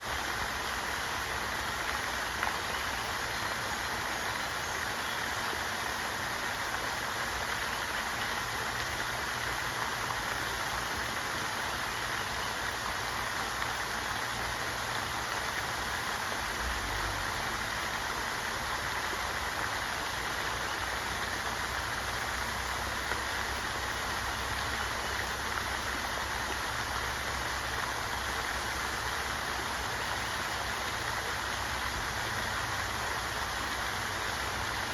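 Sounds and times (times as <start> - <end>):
rushing water hiss: 0.0 - 34.9.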